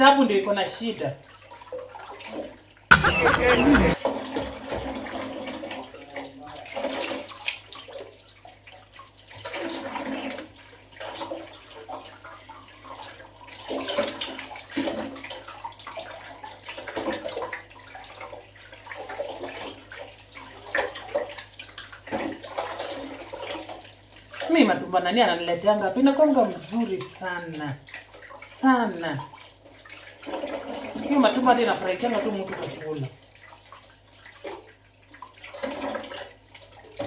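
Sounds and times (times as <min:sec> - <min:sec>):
water splashing and sloshing: 0:04.7 - 0:37.0.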